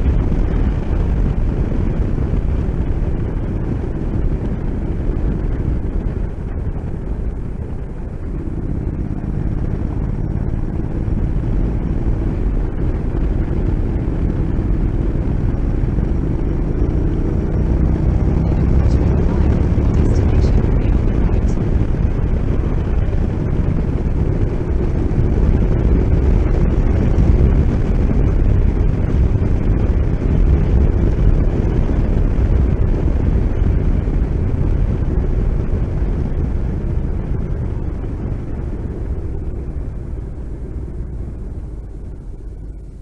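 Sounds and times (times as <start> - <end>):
motorcycle engine rumble: 0.0 - 43.0
wind on microphone: 0.0 - 43.0.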